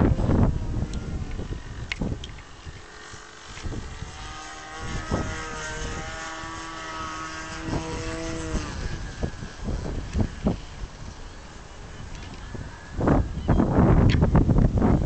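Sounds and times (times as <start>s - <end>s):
model aircraft engine droning: 0.0s - 15.0s
wind buffeting microphone: 0.0s - 15.0s.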